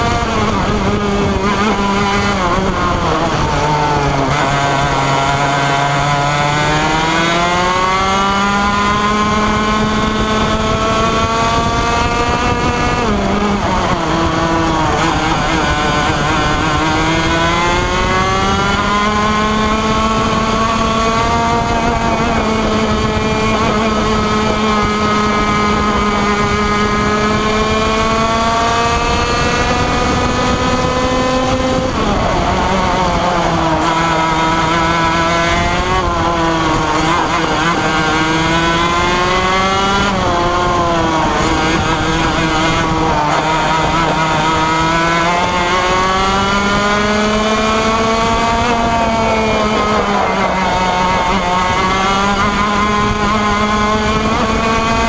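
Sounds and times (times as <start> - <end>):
kart engine revving: 0.0 - 55.0
wind noise on microphone: 0.0 - 55.0.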